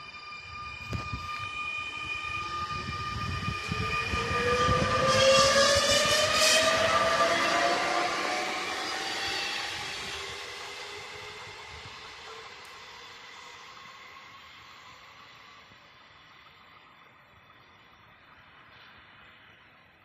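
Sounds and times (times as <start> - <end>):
electric train motors whining: 0.0 - 19.6
wheel and rail noise: 0.0 - 20.0.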